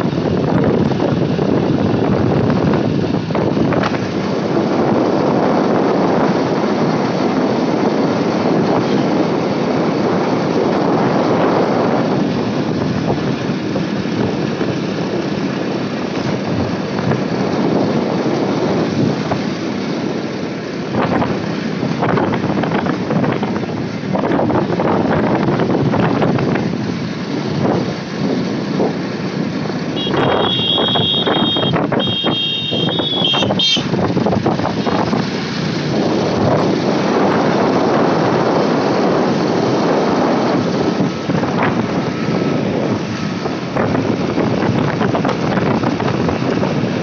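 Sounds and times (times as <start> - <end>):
motorcycle road noise: 0.0 - 47.0
wind buffeting microphone: 0.0 - 47.0.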